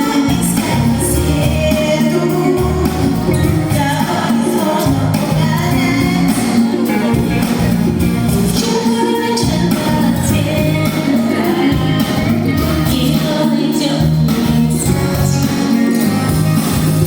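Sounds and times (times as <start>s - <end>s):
woman singing: 0.0s - 7.0s, 8.5s - 16.1s
band with steady drum beat: 0.0s - 17.0s.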